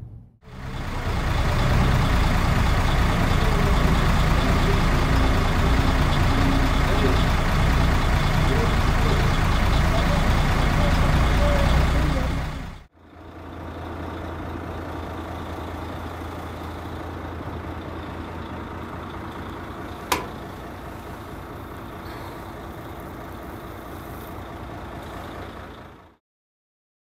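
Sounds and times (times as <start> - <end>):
diesel truck engine idling: 0.4 - 26.2.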